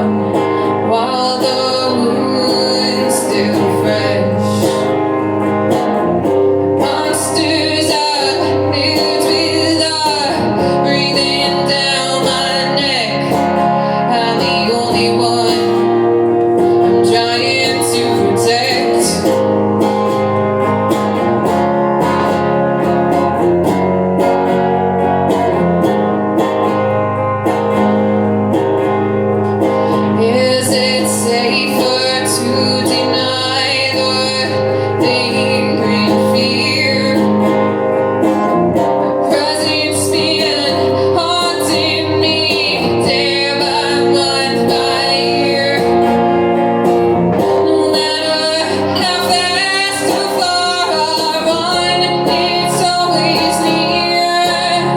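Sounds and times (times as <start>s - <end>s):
person singing: 0.0s - 5.8s, 6.7s - 23.8s, 29.4s - 54.9s
guitar: 0.0s - 54.9s.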